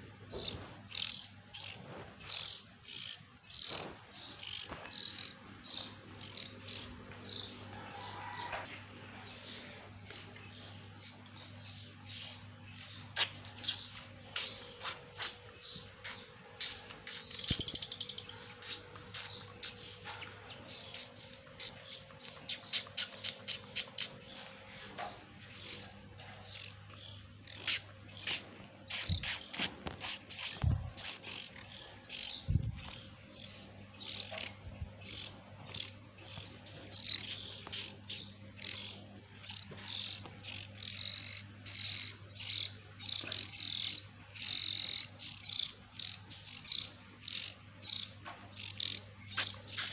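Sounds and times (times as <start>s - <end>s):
bird chicks chirping: 0.0s - 49.9s.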